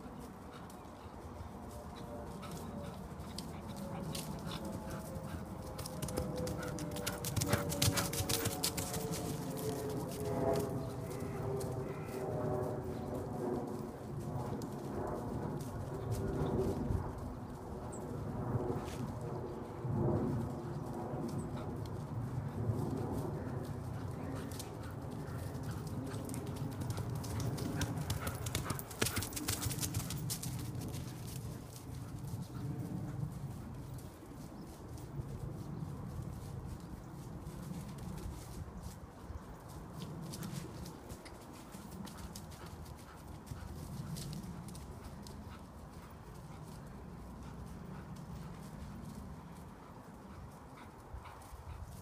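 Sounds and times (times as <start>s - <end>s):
pony hoofbeats on grass: 0.0s - 52.0s.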